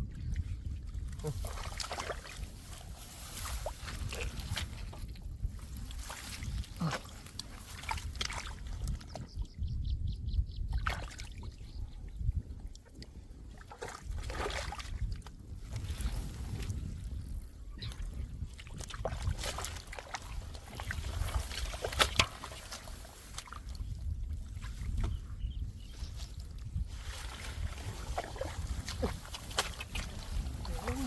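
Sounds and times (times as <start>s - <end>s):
splashing in muddy water: 0.9s - 9.4s, 10.7s - 11.6s, 13.4s - 17.1s, 17.8s - 25.2s, 26.0s - 31.0s.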